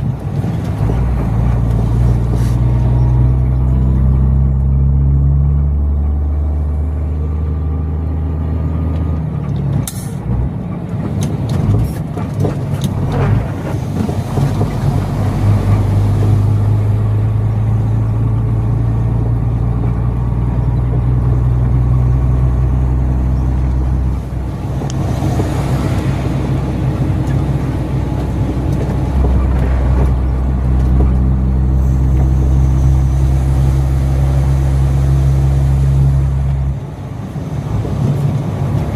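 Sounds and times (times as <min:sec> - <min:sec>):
truck engine running: 0:00.0 - 0:38.9.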